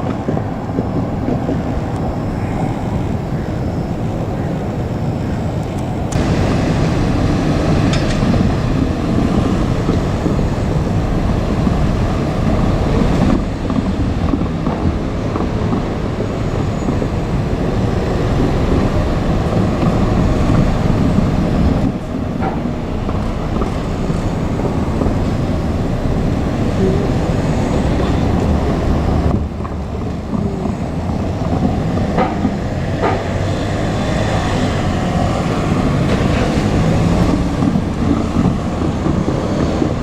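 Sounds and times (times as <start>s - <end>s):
train running rumble: 0.0s - 40.0s.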